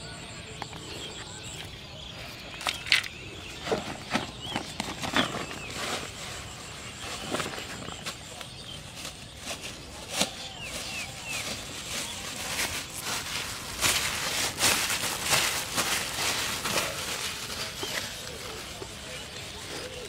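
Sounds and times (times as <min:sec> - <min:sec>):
bird chirps: 0:00.0 - 0:20.0
handling clicks and rustles: 0:00.5 - 0:20.0.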